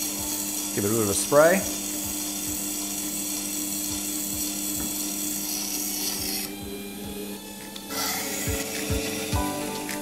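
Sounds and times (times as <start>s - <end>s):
grinder motor humming with whine: 0.0s - 10.0s.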